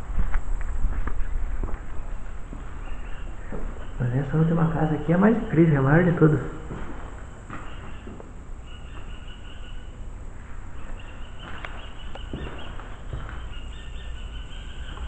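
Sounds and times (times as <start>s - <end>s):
insects trilling: 1.2s - 15.0s.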